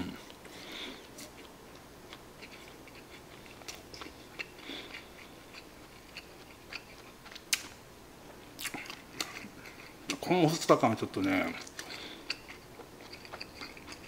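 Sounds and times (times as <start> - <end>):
chewing with mouth clicks: 0.4 - 10.2, 11.2 - 14.0.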